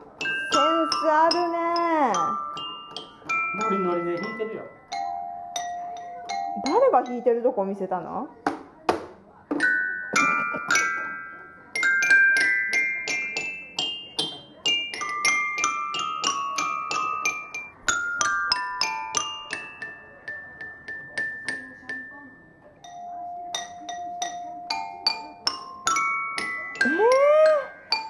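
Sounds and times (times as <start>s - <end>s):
toy piano chords chiming: 0.0s - 7.6s, 9.5s - 28.0s.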